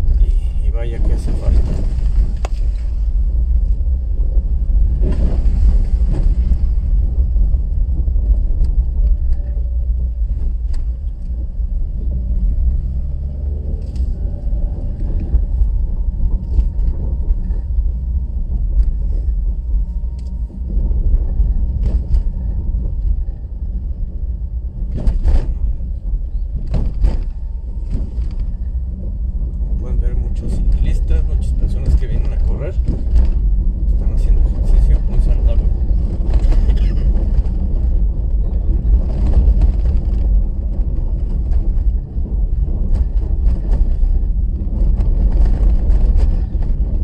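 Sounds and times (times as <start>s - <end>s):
car road and engine rumble: 0.0s - 47.0s.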